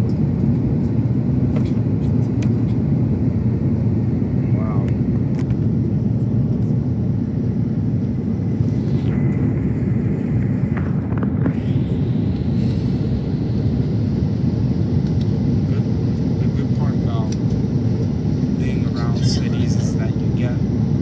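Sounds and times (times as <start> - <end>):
airplane cabin engine noise: 0.0 - 21.0.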